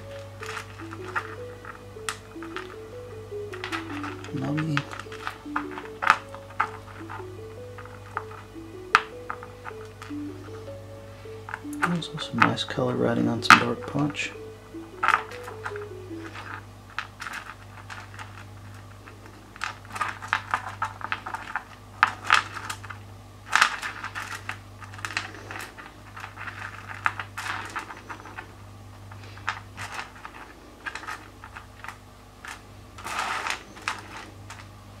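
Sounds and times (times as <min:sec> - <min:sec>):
stones clicking together: 0:00.0 - 0:10.6, 0:11.5 - 0:14.3, 0:14.9 - 0:28.5, 0:29.3 - 0:34.7
stones scraping: 0:00.0 - 0:34.7
steady low hum: 0:00.0 - 0:35.0.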